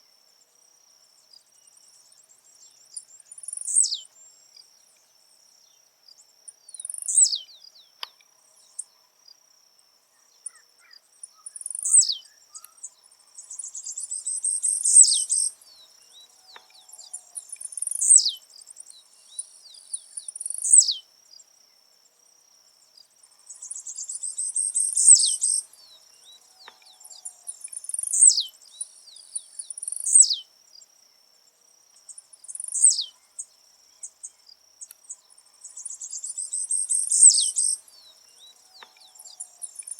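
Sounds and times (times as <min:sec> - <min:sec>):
high insect trill: 0:00.4 - 0:39.9.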